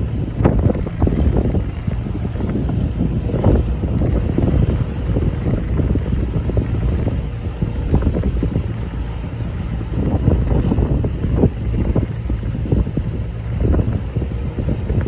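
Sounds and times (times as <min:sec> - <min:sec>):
boat engines rumbling: 0:00.0 - 0:15.0
wind buffeting microphone: 0:00.0 - 0:15.0.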